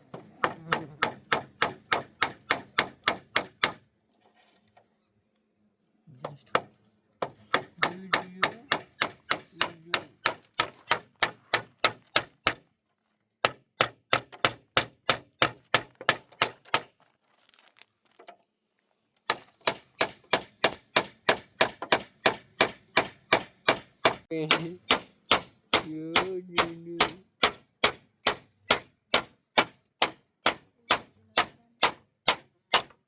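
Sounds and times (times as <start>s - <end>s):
hand tool striking wood: 0.0s - 3.8s, 6.2s - 12.6s, 13.4s - 17.0s, 19.3s - 33.0s.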